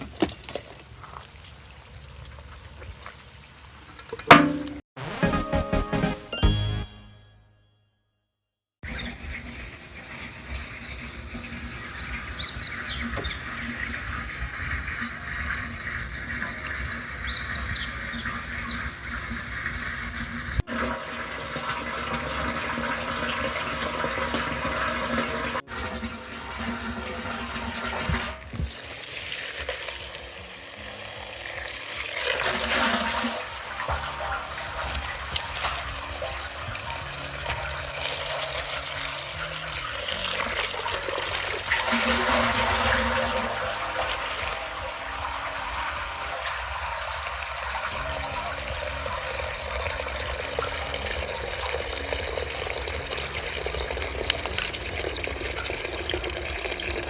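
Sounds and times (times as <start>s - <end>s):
running splashing water: 10.0s - 57.0s.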